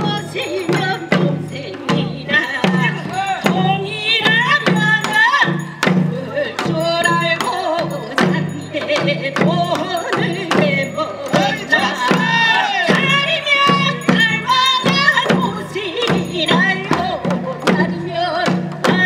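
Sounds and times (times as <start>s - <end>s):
hand drums beating: 0.0s - 19.0s
person singing folk song: 0.0s - 19.0s.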